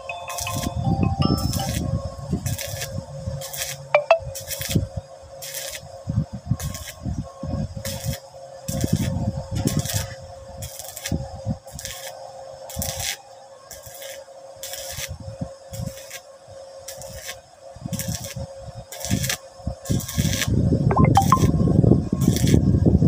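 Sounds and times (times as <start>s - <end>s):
welding arc crackling: 0.0s - 6.0s, 6.6s - 7.1s, 7.8s - 20.6s, 22.2s - 22.7s.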